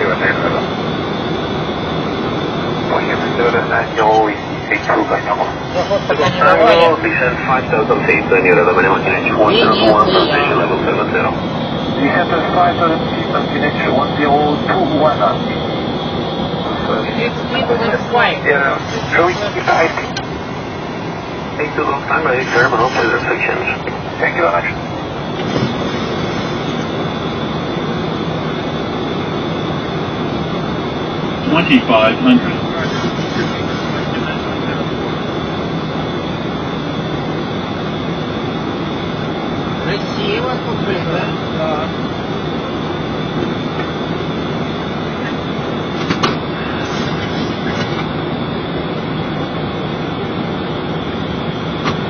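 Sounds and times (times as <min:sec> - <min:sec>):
aircraft cockpit airflow and engines: 0:00.0 - 0:52.0.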